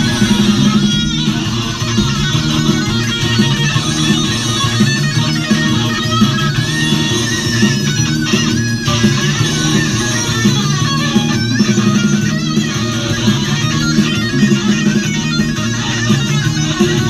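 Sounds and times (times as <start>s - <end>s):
electric guitar through amplifier: 0.0s - 17.0s.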